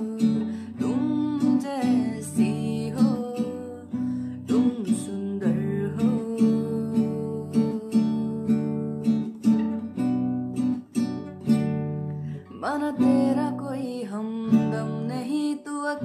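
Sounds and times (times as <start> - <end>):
person singing: 0.0 - 9.4, 12.4 - 16.0
strummed acoustic guitar: 0.0 - 16.0.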